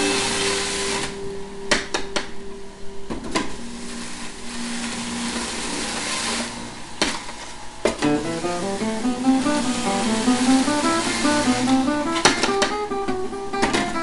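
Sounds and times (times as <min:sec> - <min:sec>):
juicer whirring and grinding: 0:00.0 - 0:02.1, 0:03.4 - 0:14.0.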